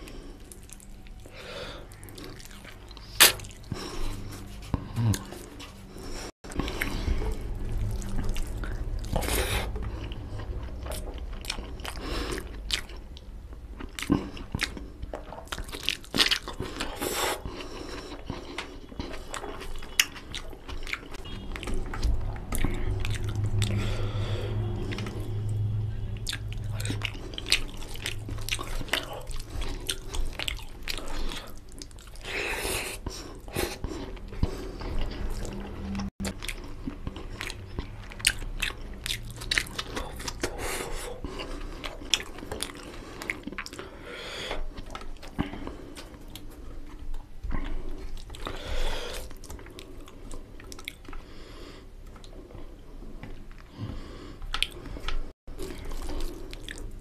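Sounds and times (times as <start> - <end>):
wet open-mouthed chewing: 0.0 - 57.0.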